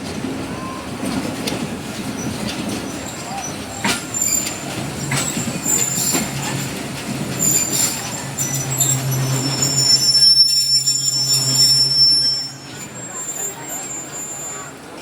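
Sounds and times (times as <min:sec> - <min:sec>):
train running low drone: 0:00.0 - 0:15.0
train wheels squealing on rails: 0:00.4 - 0:15.0.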